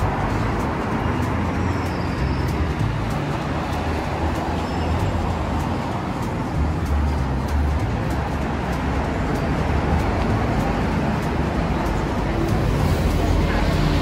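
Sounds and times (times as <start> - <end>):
cars and buses passing: 0.0 - 14.0.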